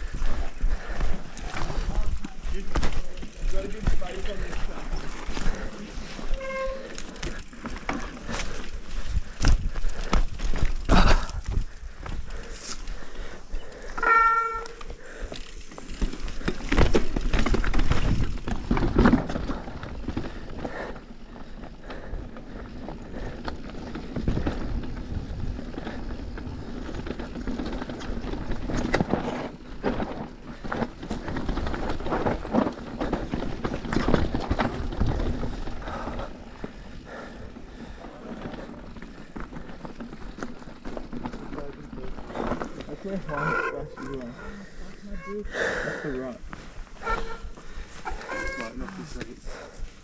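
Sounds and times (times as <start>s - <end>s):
bike rattling and knocking: 0.0s - 50.0s
bike tyres on dirt: 0.0s - 50.0s.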